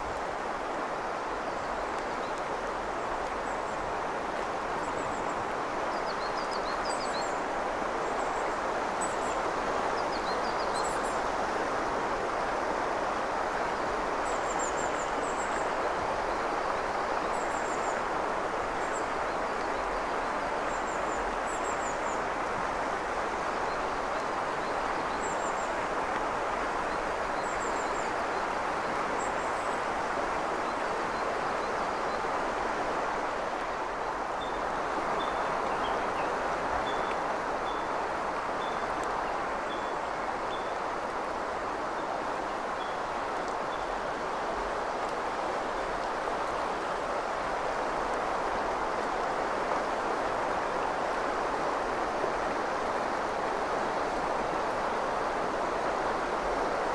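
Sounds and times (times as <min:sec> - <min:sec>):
river rushing over stones: 0:00.0 - 0:56.9.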